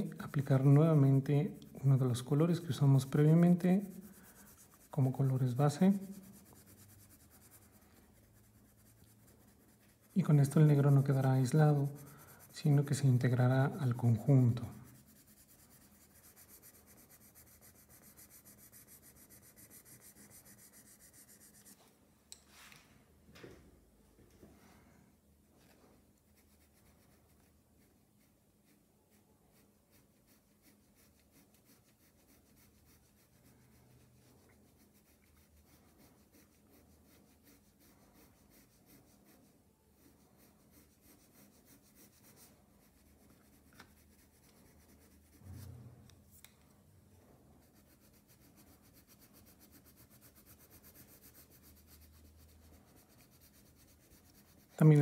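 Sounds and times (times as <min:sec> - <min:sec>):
pencil scratching on paper: 0:00.0 - 0:21.8, 0:26.3 - 0:46.4, 0:47.4 - 0:55.0.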